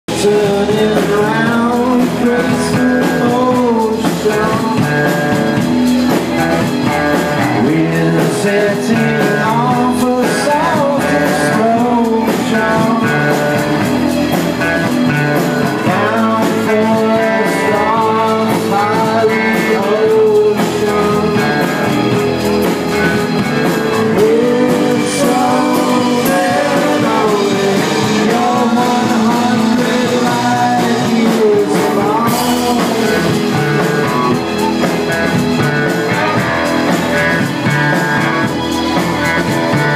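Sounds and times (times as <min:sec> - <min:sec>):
man singing lead: 0:00.0 - 0:39.9
drum kit: 0:00.1 - 0:39.9
electric guitars: 0:00.1 - 0:39.9.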